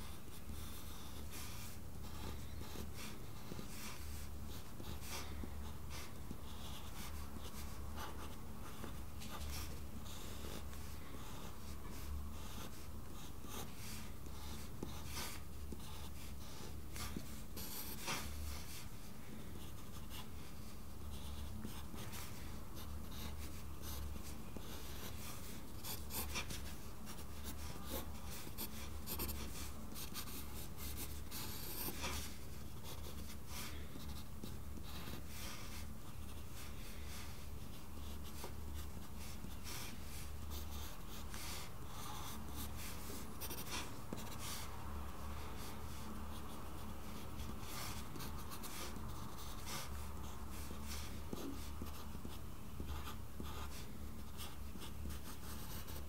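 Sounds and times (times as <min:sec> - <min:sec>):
pencil scratching on paper: 0:00.0 - 0:56.0.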